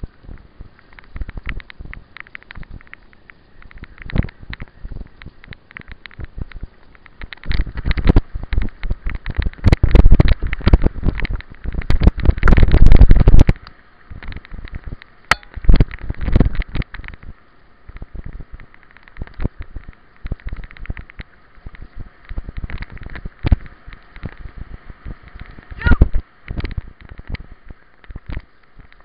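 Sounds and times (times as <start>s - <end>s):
bike rattling over bumps: 0.0s - 29.0s
wind buffeting microphone: 0.0s - 29.0s.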